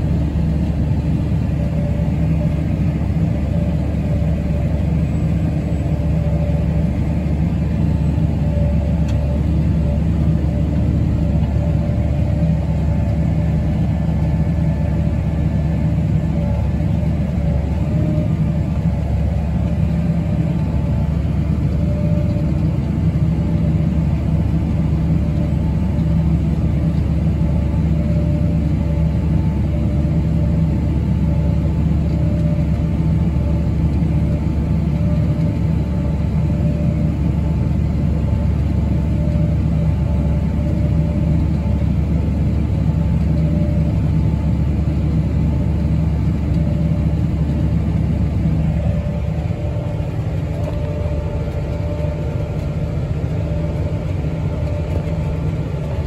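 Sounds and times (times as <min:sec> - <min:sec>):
combine harvester working: 0:00.0 - 0:56.0
tractor engine drone: 0:00.0 - 0:56.0.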